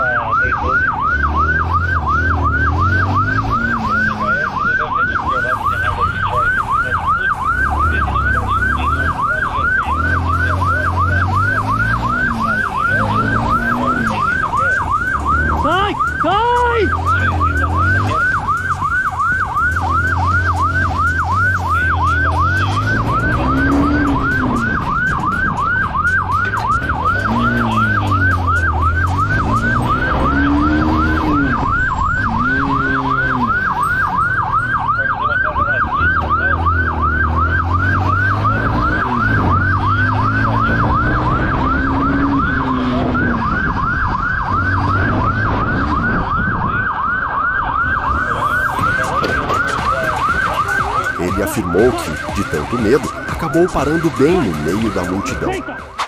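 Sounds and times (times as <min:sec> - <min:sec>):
engine revving: 0:00.0 - 0:56.0
police siren yelping: 0:00.0 - 0:56.0.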